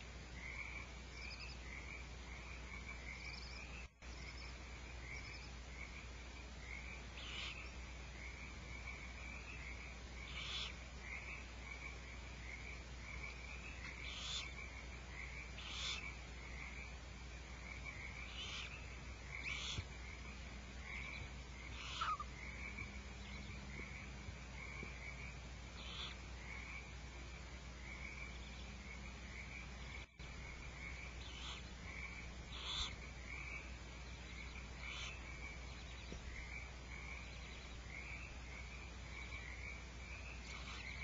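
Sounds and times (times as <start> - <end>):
frogs trilling: 0.0 - 41.0.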